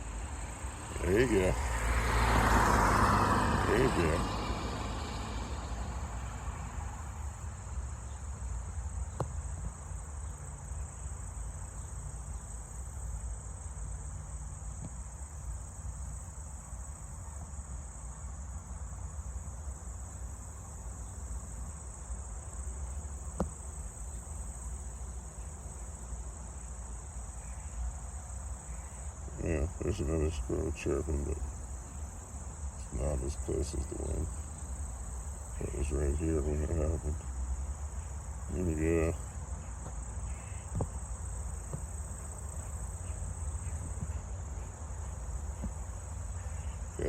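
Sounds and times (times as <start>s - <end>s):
insect chorus: 0.0s - 47.0s.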